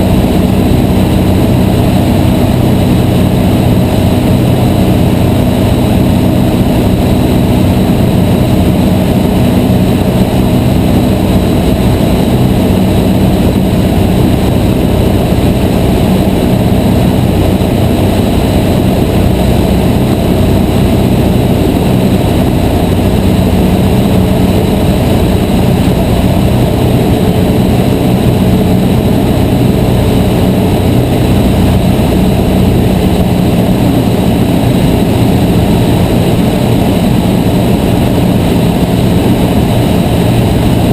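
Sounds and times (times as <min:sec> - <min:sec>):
light aircraft engine droning: 0:00.0 - 0:40.9.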